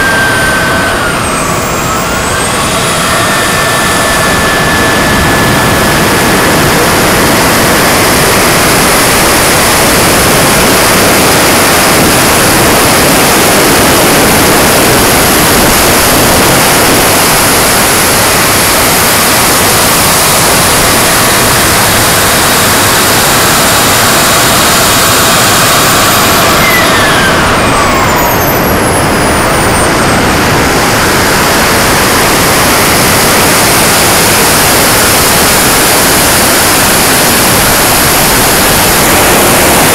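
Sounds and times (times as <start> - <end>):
high turbine whine: 0.0 - 39.9
jet engine roar: 0.0 - 39.9.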